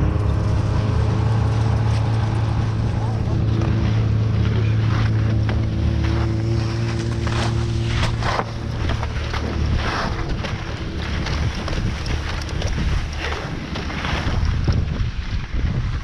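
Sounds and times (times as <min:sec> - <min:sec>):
low machine hum: 0:00.0 - 0:15.0
wind buffeting microphone: 0:00.0 - 0:16.0
skis scraping over snow: 0:01.4 - 0:16.0.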